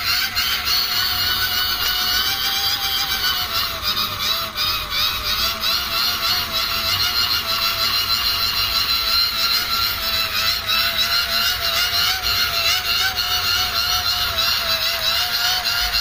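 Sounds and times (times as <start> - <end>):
hand-cranked blower whirring: 0.0 - 16.0.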